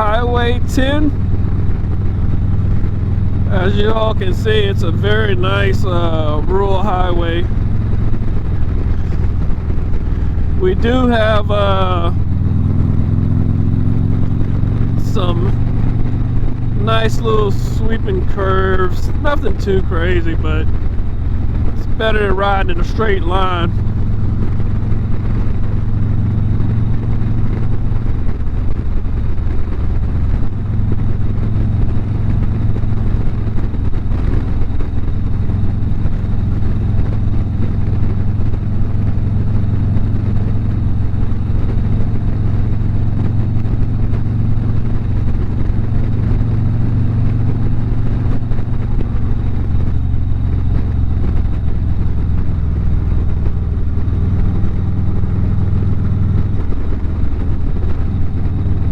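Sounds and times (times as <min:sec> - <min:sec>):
motorcycle engine cruising: 0:00.0 - 0:58.9
wind noise: 0:00.0 - 0:58.9.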